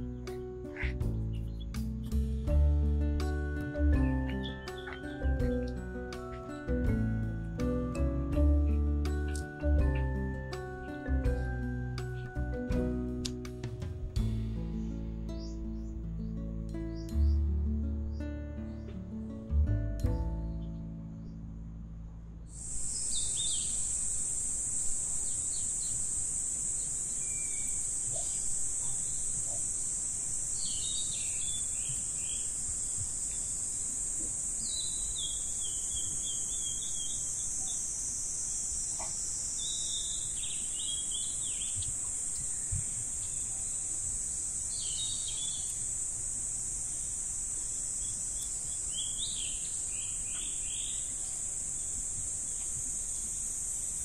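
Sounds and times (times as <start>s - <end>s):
birds chirping: 0.0s - 2.3s, 3.2s - 12.8s, 14.6s - 19.3s, 22.6s - 46.0s, 46.8s - 54.0s
insects droning: 0.0s - 54.0s.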